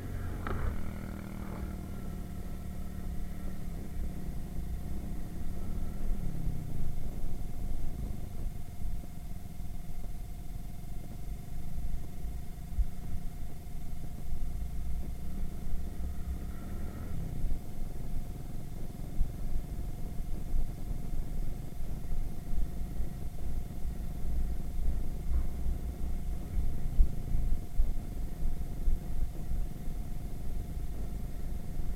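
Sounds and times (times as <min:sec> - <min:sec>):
moped engine rumble: 0:00.0 - 0:31.9.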